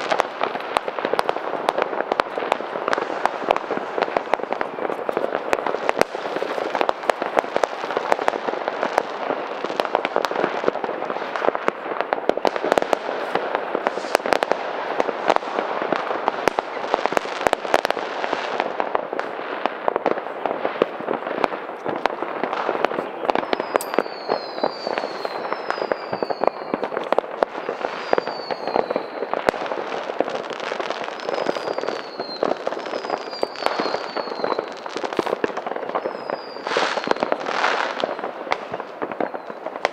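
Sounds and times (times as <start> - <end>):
firecrackers crackling and popping: 0.0 - 39.9
fireworks whistling: 0.0 - 39.9.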